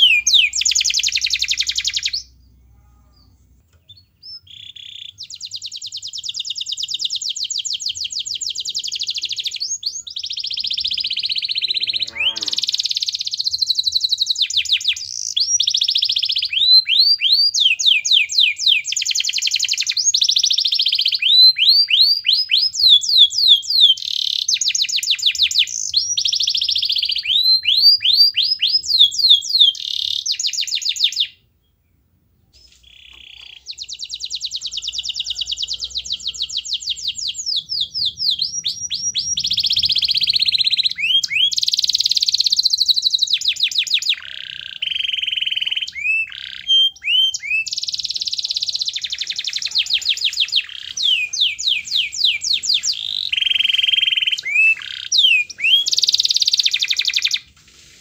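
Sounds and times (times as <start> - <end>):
canary singing trills: 0.0 - 57.5.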